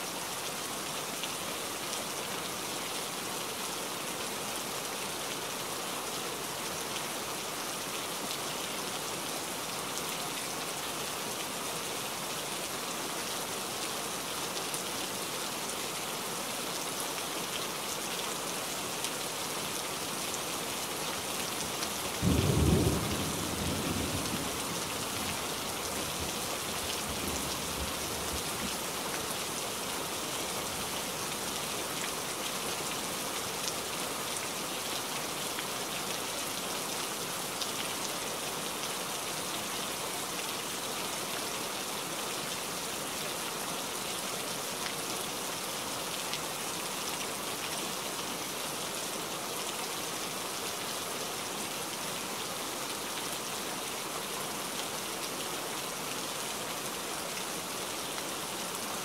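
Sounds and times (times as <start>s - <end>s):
rain falling on foliage: 0.0s - 59.0s.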